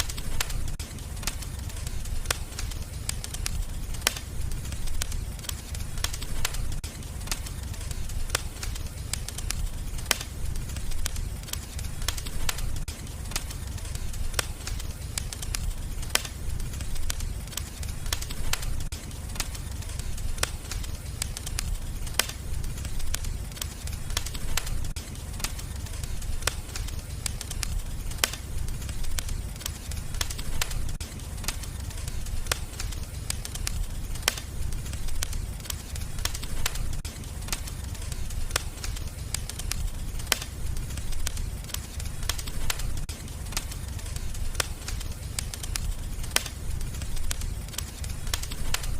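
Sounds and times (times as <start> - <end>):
fireplace fire crackling: 0.0 - 48.9
sharp pops of fire: 0.0 - 48.9.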